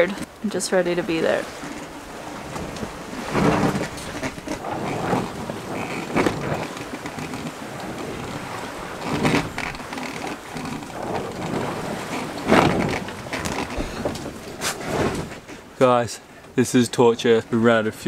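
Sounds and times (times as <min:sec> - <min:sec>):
steady rushing noise: 0:00.0 - 0:16.2
sail flapping and snapping: 0:01.0 - 0:15.8.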